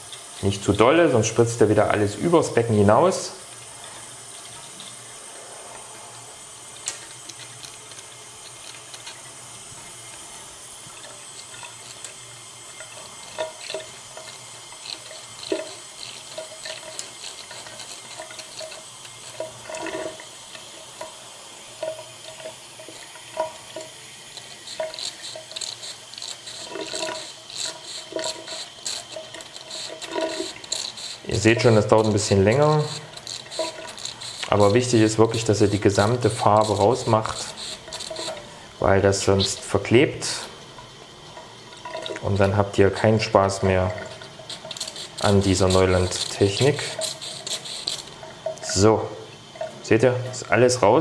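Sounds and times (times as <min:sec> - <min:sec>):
water splashes and clicks: 0:00.0 - 0:01.2, 0:06.7 - 0:38.6, 0:39.2 - 0:51.0
tap water running into sink: 0:00.0 - 0:51.0.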